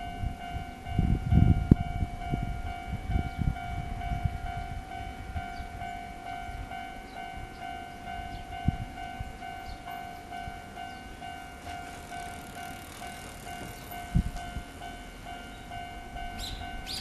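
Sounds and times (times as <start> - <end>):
level-crossing warning bell: 0.0 - 17.0
train passing over crossing: 0.0 - 17.0.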